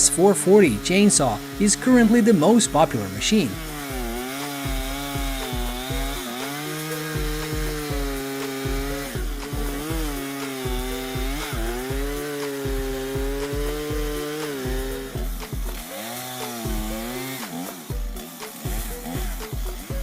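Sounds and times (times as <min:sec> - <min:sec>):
background music with steady beat: 0:00.0 - 0:20.0
chainsaw cutting wood: 0:00.0 - 0:20.0.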